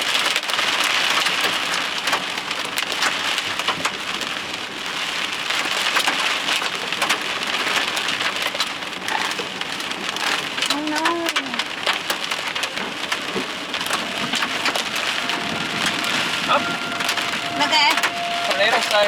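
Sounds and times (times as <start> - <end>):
heavy rain on vehicle roof: 0.0 - 19.0.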